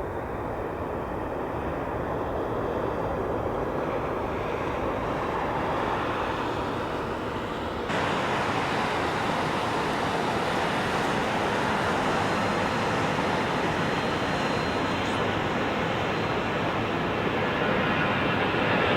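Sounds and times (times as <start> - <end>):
airliner engines and airflow rushing: 0.0 - 18.9.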